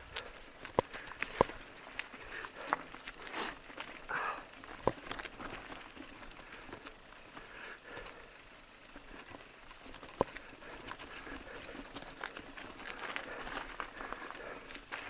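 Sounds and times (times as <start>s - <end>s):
bike rattling and clicking: 0.0s - 15.0s
bike tyres over stones: 0.0s - 15.0s.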